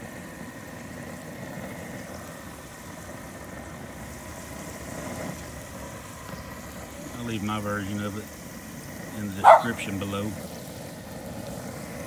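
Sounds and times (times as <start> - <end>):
egg rolls sizzling in hot oil: 0.0 - 12.0
propane burner running: 0.0 - 12.0.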